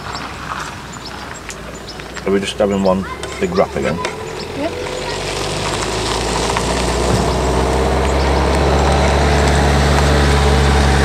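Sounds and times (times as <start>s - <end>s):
van engine driving past: 0.0s - 11.0s.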